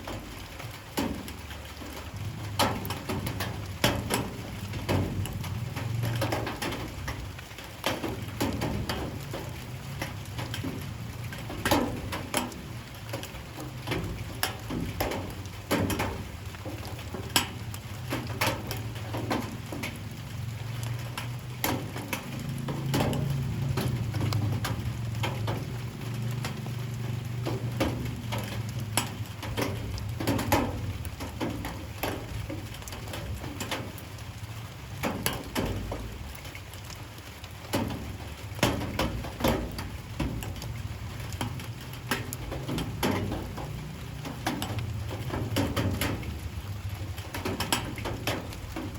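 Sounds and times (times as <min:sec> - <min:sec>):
light rain pattering: 0:00.0 - 0:48.9
raindrops tapping: 0:00.0 - 0:48.9.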